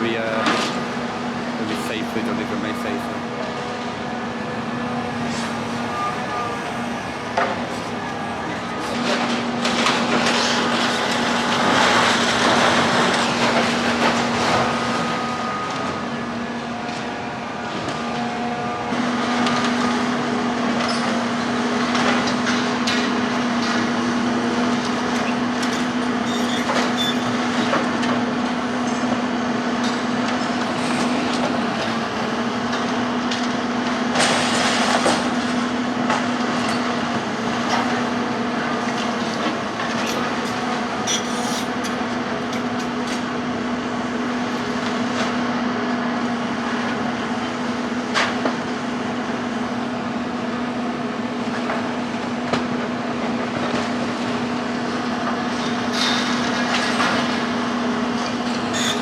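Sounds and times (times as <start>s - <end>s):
demolition machinery humming: 0.0s - 59.0s.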